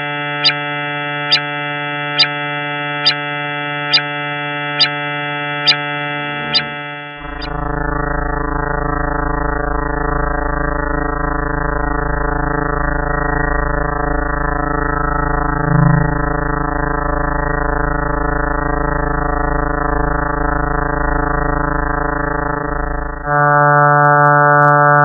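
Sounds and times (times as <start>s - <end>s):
synthesized drone: 0.0s - 25.0s.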